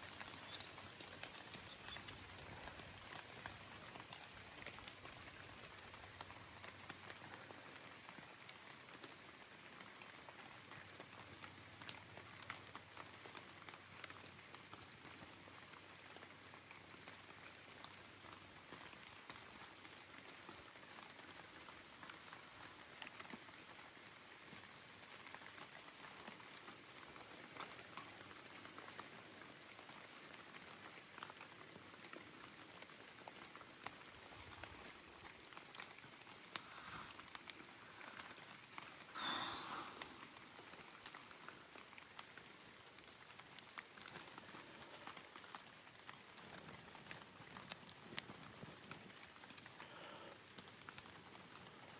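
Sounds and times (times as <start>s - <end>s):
rain pattering: 0.0s - 51.9s
rustle: 0.0s - 51.9s.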